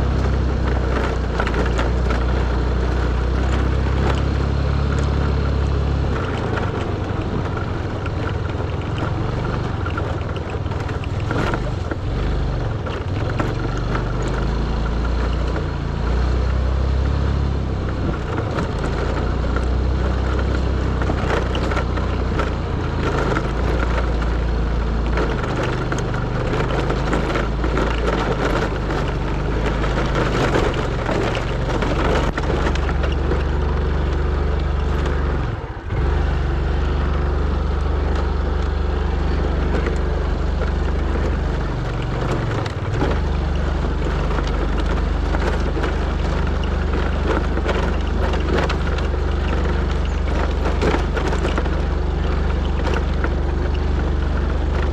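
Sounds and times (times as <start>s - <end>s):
motorcycle engine under load: 0.0s - 54.9s
rattling and crunching on dirt: 0.0s - 54.9s.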